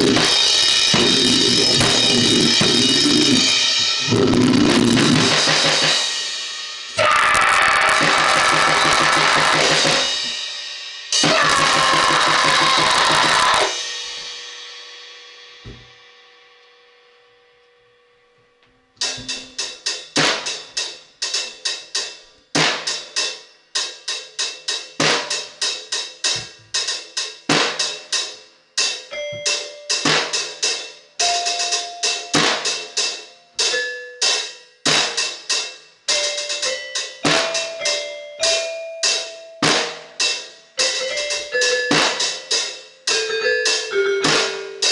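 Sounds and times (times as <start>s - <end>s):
drum and cymbal beat: 0.0s - 15.9s, 19.0s - 44.9s.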